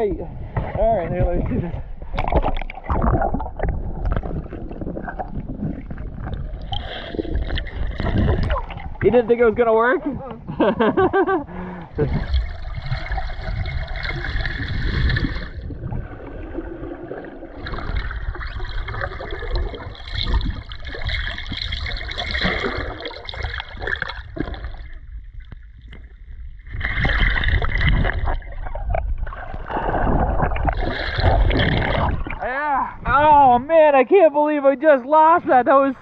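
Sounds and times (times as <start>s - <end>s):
muffled underwater water sloshing: 0.0s - 33.6s.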